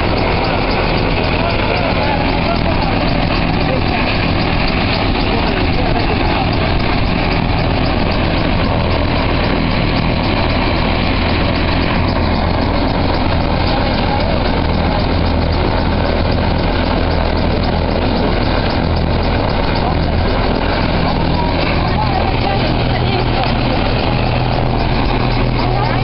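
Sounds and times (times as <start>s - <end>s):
helicopter idling: 0.0s - 26.0s.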